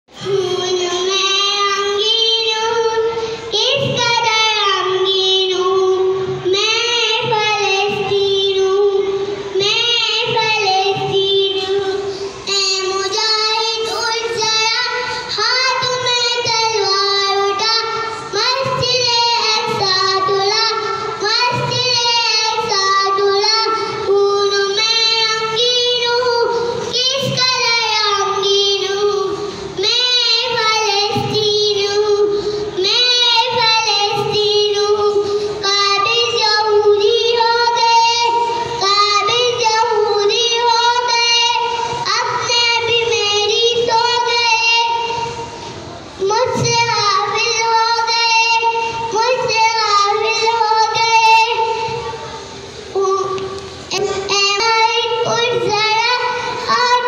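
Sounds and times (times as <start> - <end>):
girl singing into microphone: 0.1 - 57.0.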